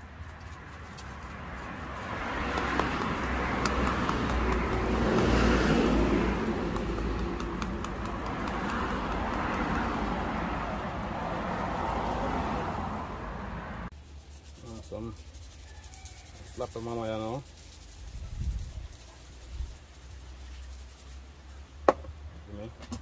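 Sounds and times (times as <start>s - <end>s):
motor vehicle rumbling: 0.0s - 23.0s.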